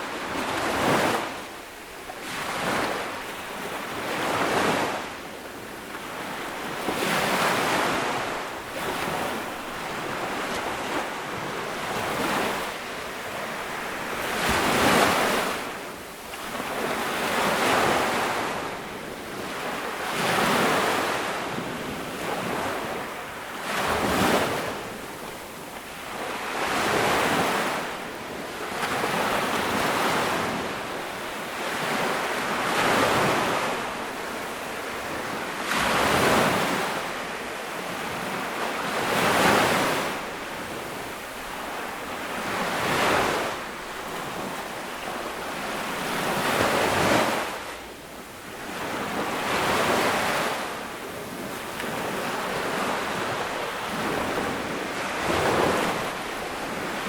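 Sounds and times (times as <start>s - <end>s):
ocean waves washing onto beach: 0.0s - 57.0s.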